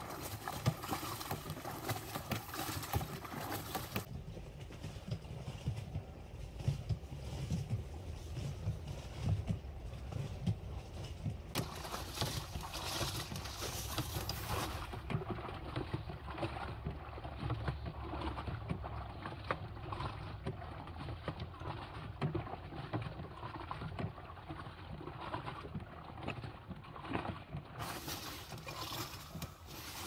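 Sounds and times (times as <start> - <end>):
water and clothes sloshing: 0.0 - 30.0.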